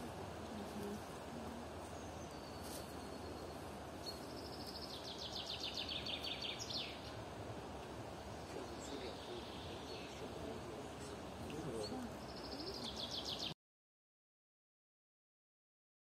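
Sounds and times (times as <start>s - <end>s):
faint steady hiss: 0.0s - 13.6s.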